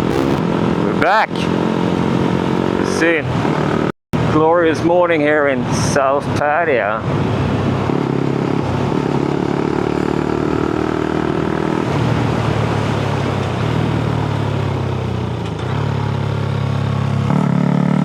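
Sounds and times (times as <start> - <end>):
motorcycle engine with loud exhaust: 0.0 - 4.4, 7.0 - 18.0.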